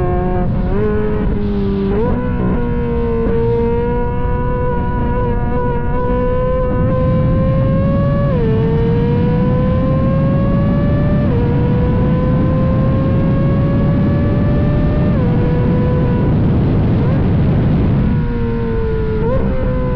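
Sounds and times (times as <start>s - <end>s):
car engine accelerating: 0.0s - 19.9s.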